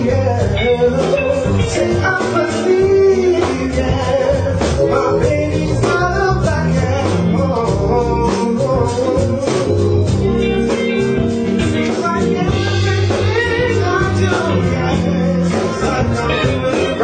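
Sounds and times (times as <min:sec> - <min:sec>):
band playing blues-rock: 0:00.0 - 0:17.0
guitar: 0:00.0 - 0:17.0
person singing: 0:00.0 - 0:17.0
steady drum beat: 0:00.0 - 0:17.0.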